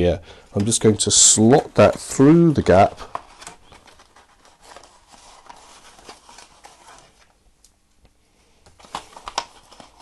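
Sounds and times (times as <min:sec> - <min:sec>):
paper and card rustling: 0:00.6 - 0:07.4, 0:08.7 - 0:10.0.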